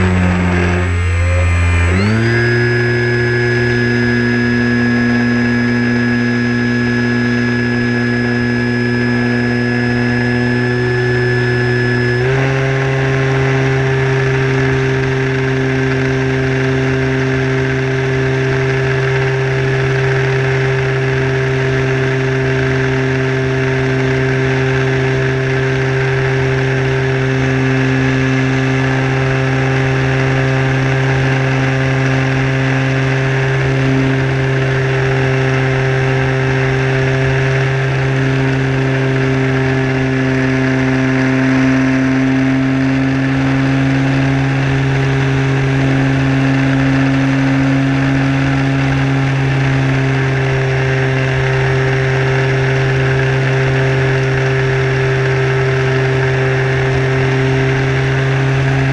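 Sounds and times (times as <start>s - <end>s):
model airplane motor droning: 0.0s - 58.9s.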